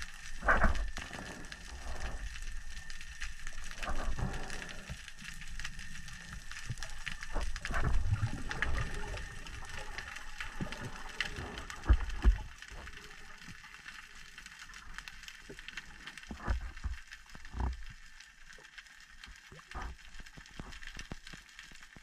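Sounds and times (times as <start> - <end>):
faint underwater clicks and crackles: 0.0 - 22.0
low rumble of moving water: 0.0 - 22.0.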